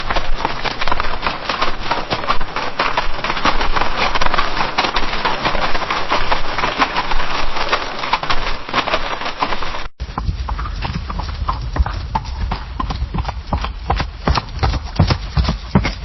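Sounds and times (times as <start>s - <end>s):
horse hoofbeats galloping on dirt: 0.0s - 16.0s.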